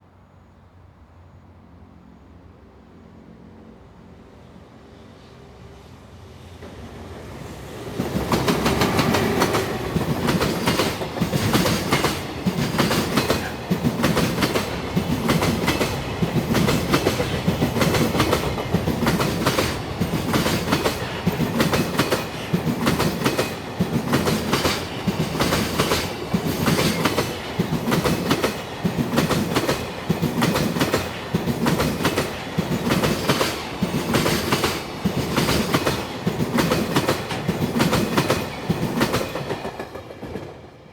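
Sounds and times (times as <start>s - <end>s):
train wheels clickety-clack: 7.6s - 40.9s.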